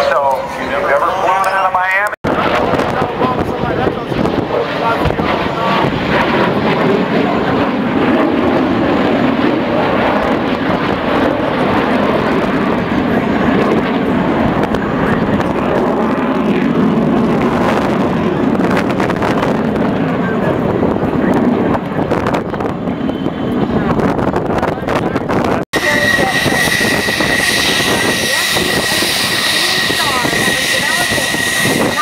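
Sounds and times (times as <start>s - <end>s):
jet engines rushing: 0.0s - 32.0s.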